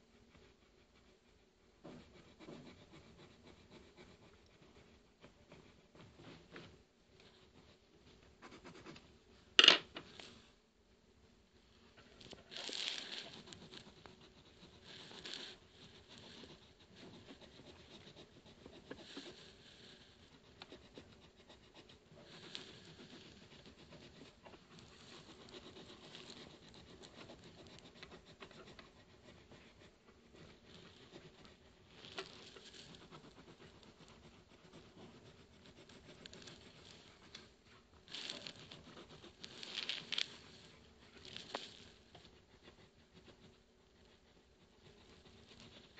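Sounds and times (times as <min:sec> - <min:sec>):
pencil scratching on paper: 0:00.0 - 0:09.8, 0:12.0 - 0:45.9.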